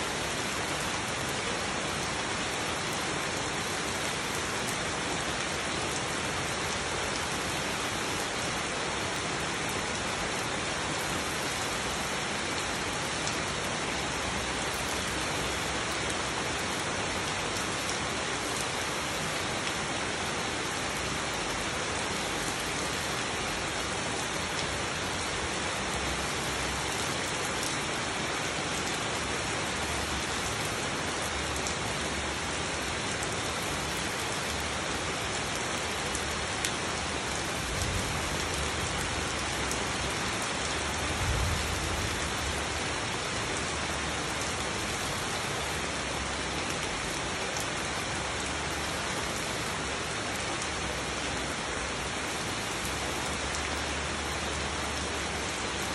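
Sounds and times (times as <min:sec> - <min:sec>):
rain on foliage: 0:00.0 - 0:55.9.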